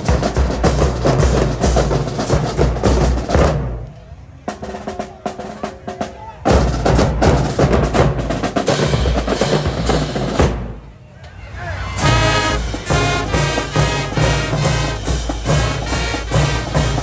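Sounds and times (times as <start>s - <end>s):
drumline playing snare and bass drums: 0.0s - 10.9s, 11.9s - 17.0s.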